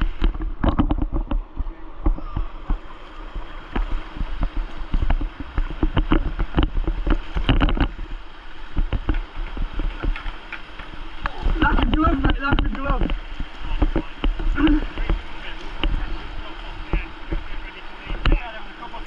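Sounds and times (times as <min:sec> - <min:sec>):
paddle splashes and knocks: 0:00.0 - 0:19.0
steady low rumble: 0:00.0 - 0:19.0.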